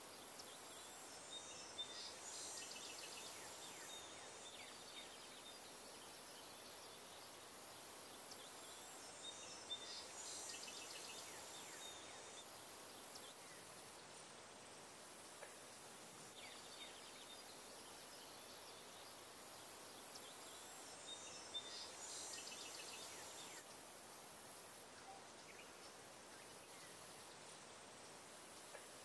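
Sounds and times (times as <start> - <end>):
high-pitched insect hiss: 0.0 - 29.0.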